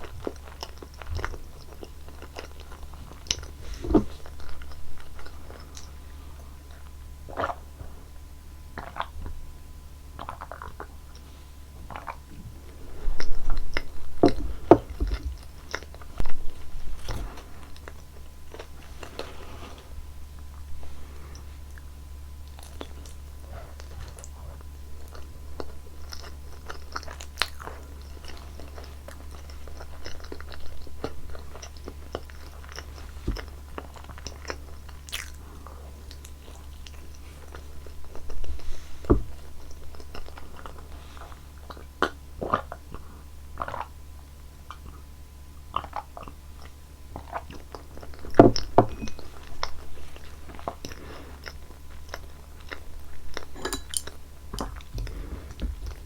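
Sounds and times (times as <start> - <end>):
close chewing and biting: 0.0 - 9.4, 10.1 - 56.0.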